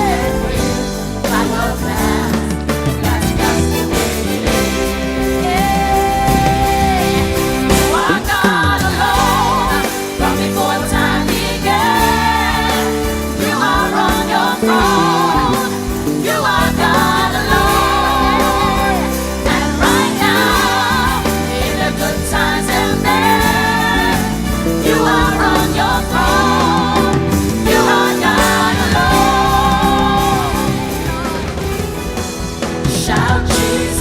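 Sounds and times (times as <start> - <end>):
band playing: 0.0 - 34.0
singer with backing vocals: 0.0 - 34.0
sustained keyboard chords: 0.0 - 34.0.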